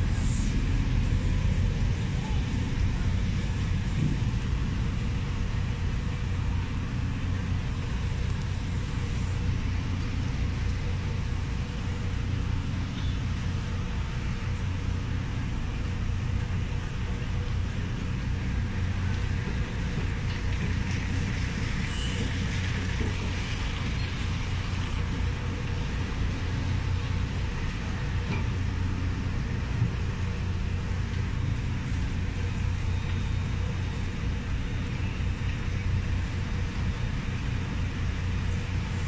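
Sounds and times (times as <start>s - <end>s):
engine rumble and road noise: 0.0s - 39.0s.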